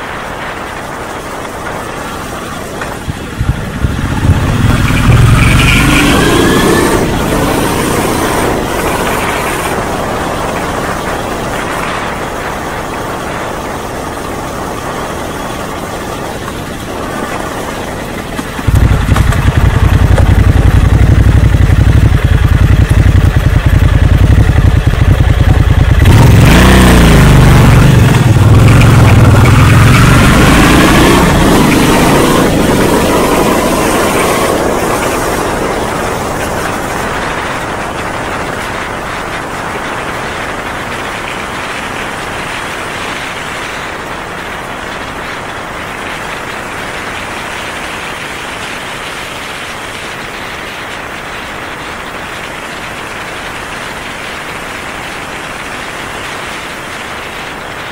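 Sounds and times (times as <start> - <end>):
motorcycle engine idling and revving: 0.0 - 57.9
steady background noise: 0.0 - 57.9.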